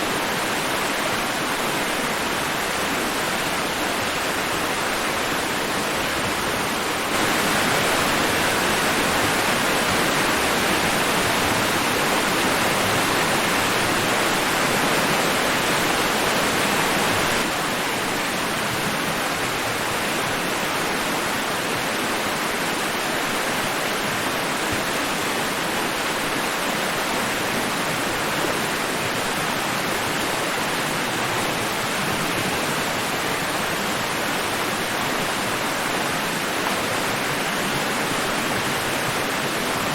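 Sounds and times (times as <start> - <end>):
steady rushing white noise: 0.0 - 39.9.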